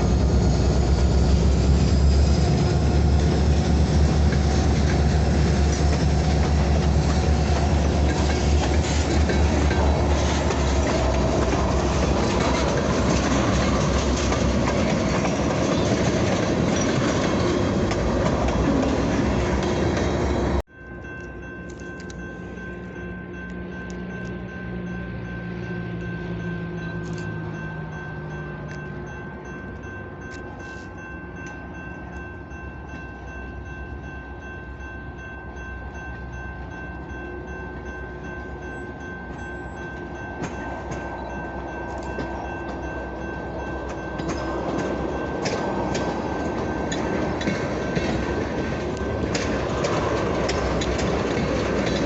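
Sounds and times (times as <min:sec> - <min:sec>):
wheels clicking over rail joints: 0:00.0 - 0:33.8, 0:36.0 - 0:52.0
locomotive engine rumble: 0:00.0 - 0:52.0.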